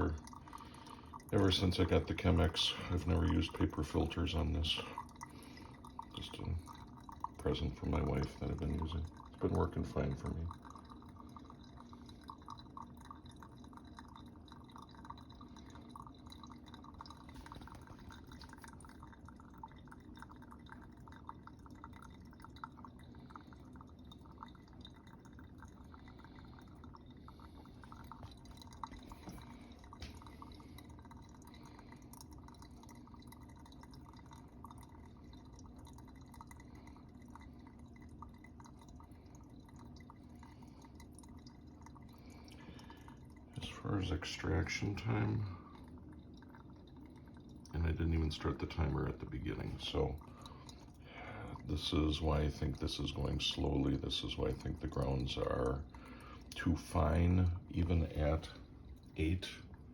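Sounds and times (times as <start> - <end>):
coffee dripping: 0.0 - 59.9.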